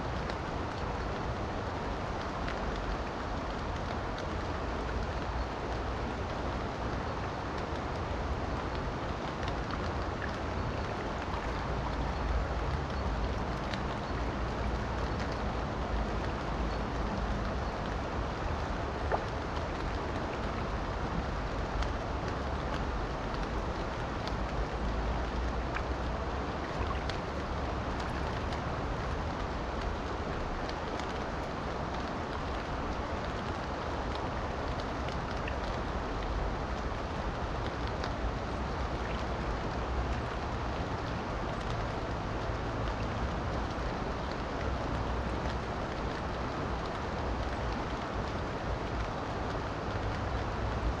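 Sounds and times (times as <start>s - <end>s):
falling rain: 0.0s - 51.0s
river water rushing: 0.0s - 51.0s
raindrop ticks: 0.1s - 51.0s.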